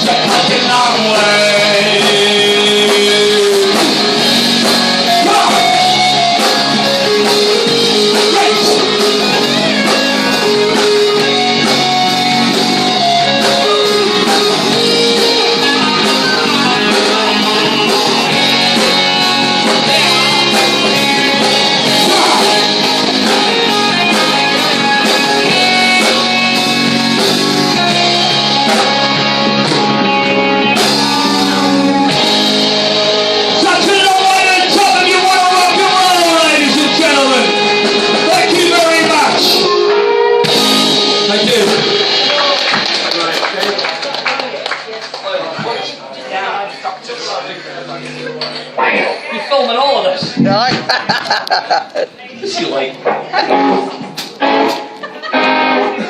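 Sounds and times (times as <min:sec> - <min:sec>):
electric guitar: 0:00.0 - 0:44.8, 0:50.2 - 0:56.0
rock band playing: 0:00.0 - 0:44.8, 0:50.2 - 0:56.0.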